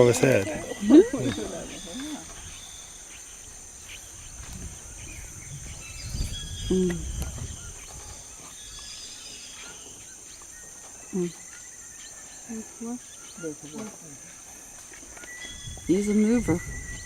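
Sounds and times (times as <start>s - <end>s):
bird chirps: 0.0s - 17.0s
high insect drone: 0.0s - 17.0s.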